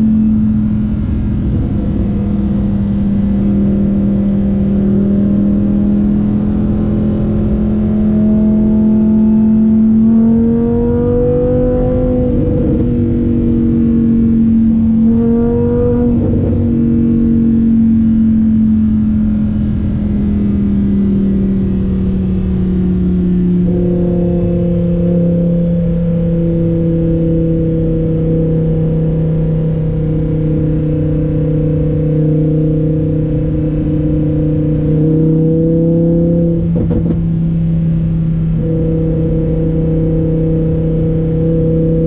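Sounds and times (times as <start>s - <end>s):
car engine heard from inside cabin: 0.0s - 42.0s.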